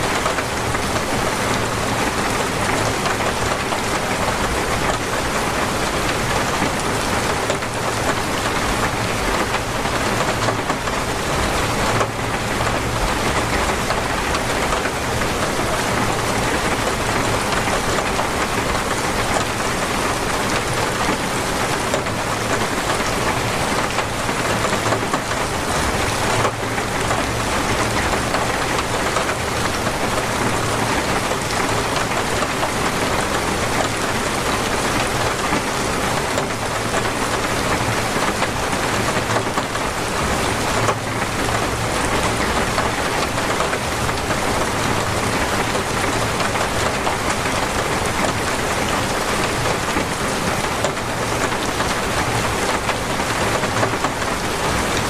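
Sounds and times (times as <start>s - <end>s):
torrential rain hiss: 0.0s - 55.0s.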